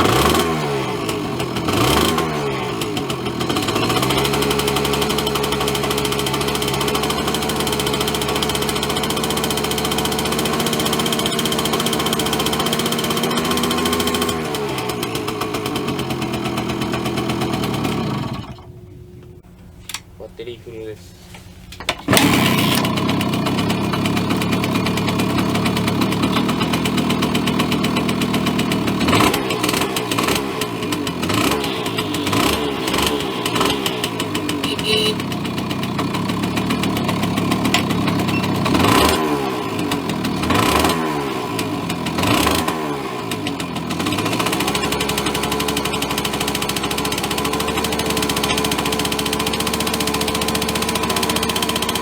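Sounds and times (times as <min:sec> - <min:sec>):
two-stroke engine revving and idling: 0:00.0 - 0:19.5, 0:21.9 - 0:52.0.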